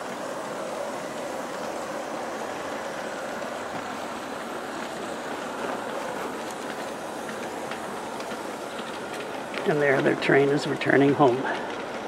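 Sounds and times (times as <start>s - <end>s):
model train wheels on rail: 0.0s - 12.0s.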